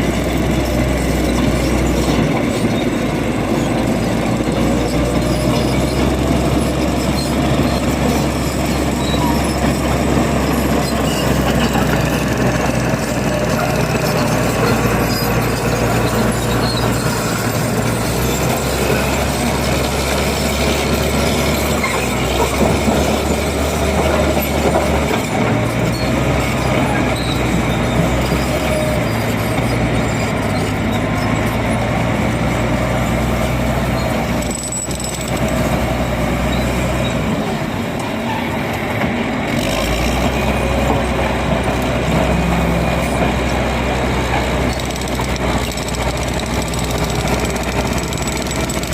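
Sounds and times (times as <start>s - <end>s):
bulldozer diesel engine: 0.0s - 48.9s.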